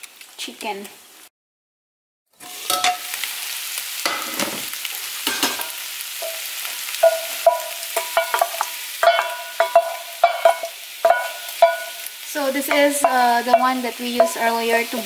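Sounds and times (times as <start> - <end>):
food sizzling in frying pan: 0.0 - 1.3, 2.3 - 15.0.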